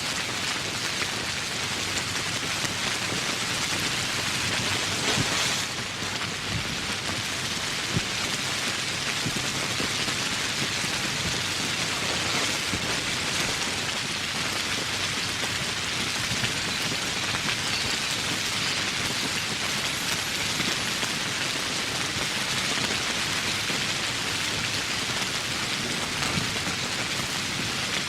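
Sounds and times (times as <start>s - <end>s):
heavy rain on foliage: 0.0s - 28.0s.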